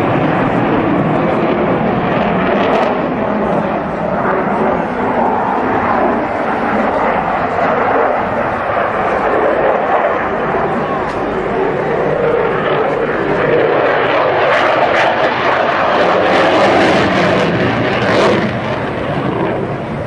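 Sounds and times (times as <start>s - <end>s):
jet aircraft roaring: 0.0s - 20.0s.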